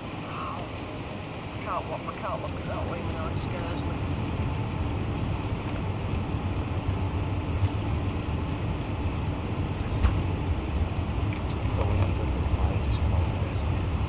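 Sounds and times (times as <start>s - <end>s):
deep rumble of engines and wheels: 0.0s - 14.0s.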